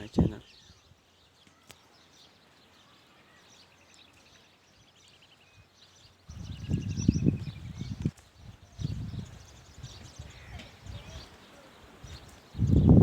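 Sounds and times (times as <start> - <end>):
small birds trilling: 0.0 - 13.0.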